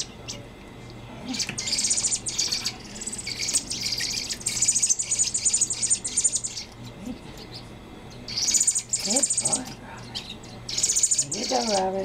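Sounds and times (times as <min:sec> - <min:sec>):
fledgling birds begging chirps: 0:01.3 - 0:12.0.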